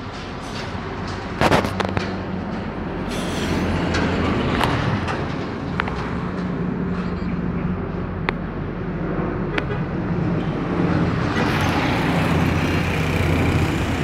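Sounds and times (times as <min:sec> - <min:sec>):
street traffic: 0:00.0 - 0:14.0
propeller plane droning overhead: 0:00.8 - 0:14.0.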